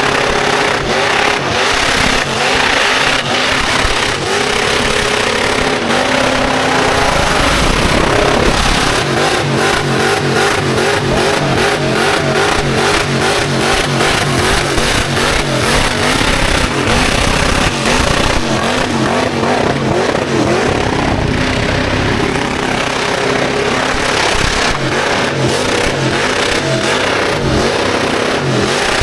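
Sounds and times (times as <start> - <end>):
car engine at high revs: 0.0 - 29.0
rapid pulsing: 0.0 - 29.0.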